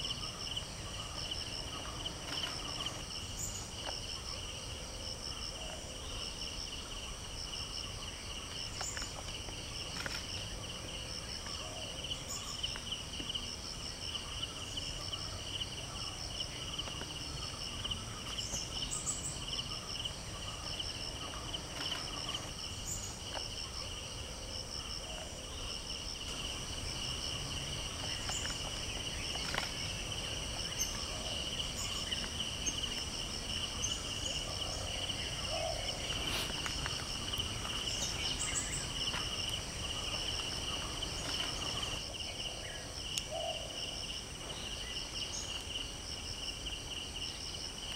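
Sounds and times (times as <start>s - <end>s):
insects high chirping: 0.0s - 47.9s
insects pulsing buzz: 0.0s - 47.9s.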